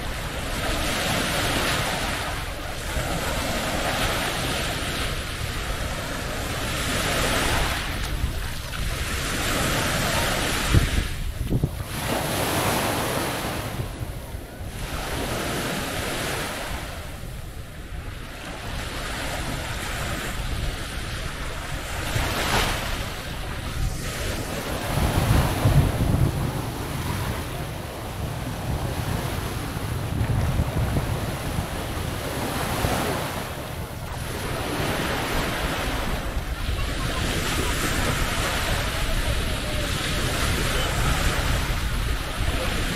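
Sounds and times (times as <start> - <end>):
small waves breaking on beach: 0.0 - 42.9
wind buffeting microphone: 0.0 - 42.9.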